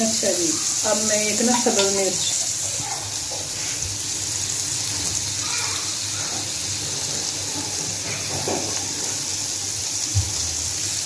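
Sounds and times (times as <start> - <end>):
potatoes sizzling in a pan: 0.0 - 11.0.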